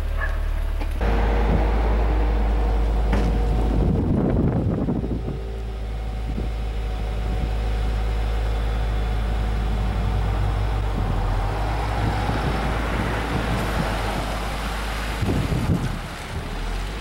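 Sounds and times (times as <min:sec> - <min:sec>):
car engine low rumble: 0:00.0 - 0:17.0
wind noise on microphone: 0:01.0 - 0:07.8, 0:09.0 - 0:17.0.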